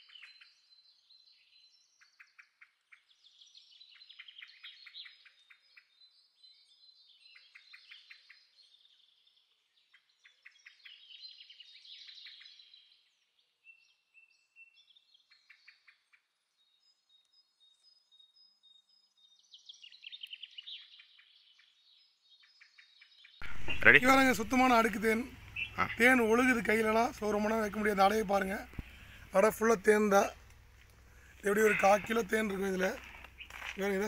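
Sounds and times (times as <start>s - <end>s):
bird singing faintly: 0.0s - 34.0s
faint bird chirps: 0.0s - 34.0s.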